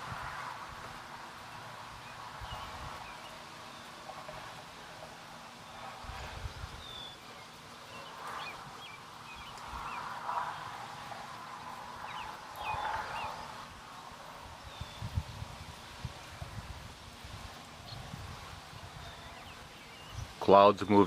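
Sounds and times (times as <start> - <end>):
breezy background noise: 0.0 - 21.0
wind rumble on microphone: 0.0 - 21.0
birds chirping: 0.9 - 21.0.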